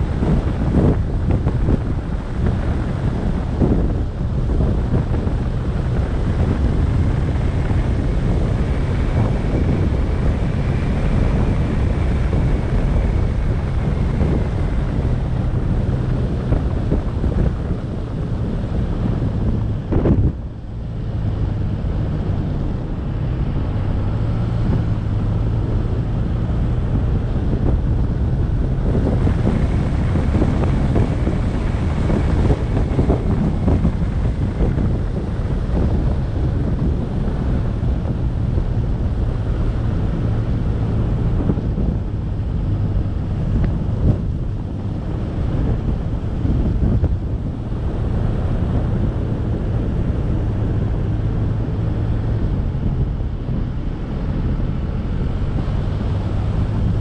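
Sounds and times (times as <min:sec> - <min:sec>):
moving vehicle rumble: 0:00.0 - 0:57.0
wind buffeting microphone: 0:00.0 - 0:57.0.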